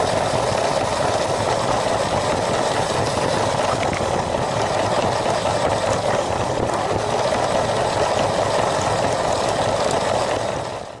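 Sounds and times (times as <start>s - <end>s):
toy train motor running: 0.0s - 10.2s
wheels rolling on track: 0.0s - 11.0s.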